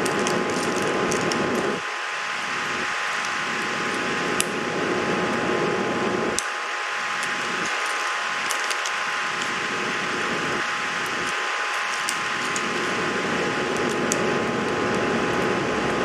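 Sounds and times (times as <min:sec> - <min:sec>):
steady fan-like hum: 0:00.0 - 0:16.0.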